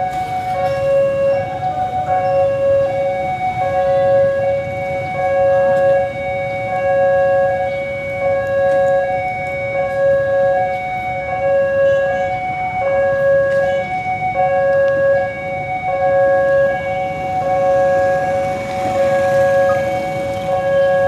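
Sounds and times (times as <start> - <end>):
level crossing two-tone alarm: 0.0 - 21.0.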